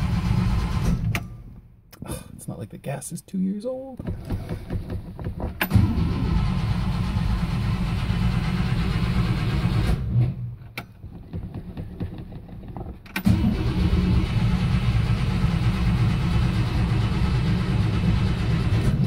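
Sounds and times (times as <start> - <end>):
car engine cranking on starter: 0.0 - 1.6, 4.0 - 12.0, 13.0 - 19.0.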